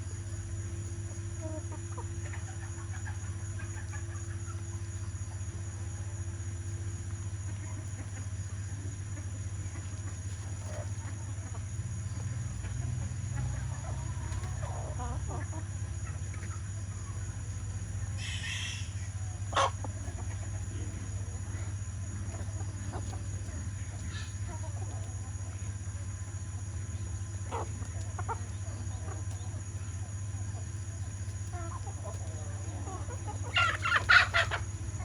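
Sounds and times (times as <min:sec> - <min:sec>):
chickens clucking: 0:00.0 - 0:35.0
steady low hum: 0:00.0 - 0:35.0.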